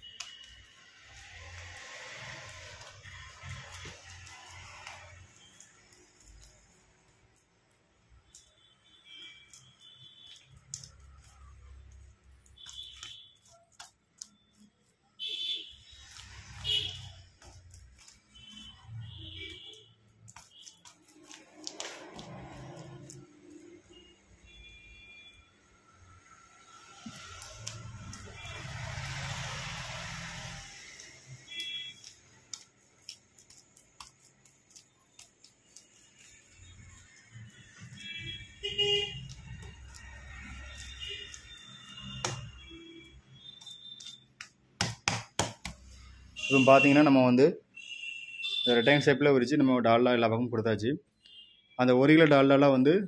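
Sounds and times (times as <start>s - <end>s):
hand spreading fat on dough: 0.0s - 25.4s, 26.0s - 47.0s.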